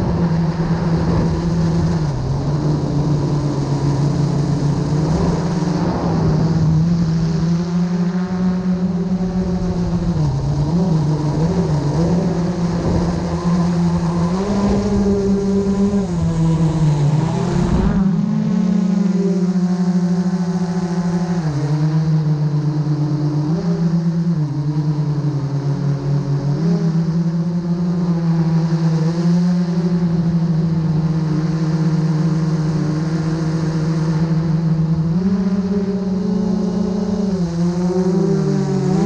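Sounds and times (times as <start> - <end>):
drone propellers humming: 0.0 - 39.0.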